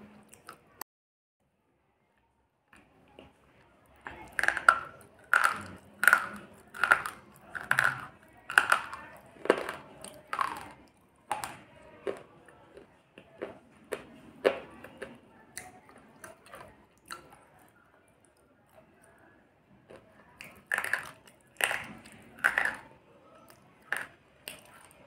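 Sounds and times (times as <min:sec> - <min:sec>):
crunching between teeth: 0:00.0 - 0:00.8, 0:02.8 - 0:19.2, 0:19.8 - 0:25.0.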